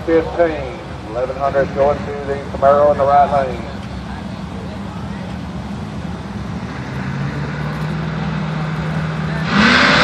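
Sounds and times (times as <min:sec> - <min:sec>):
drag racing car engines: 0:00.0 - 0:10.0.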